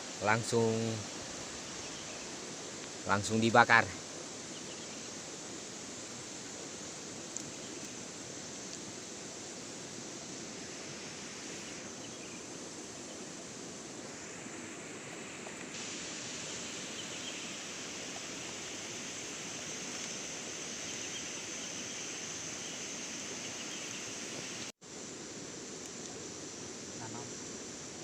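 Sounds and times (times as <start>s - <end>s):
steady hissing: 0.0s - 28.0s.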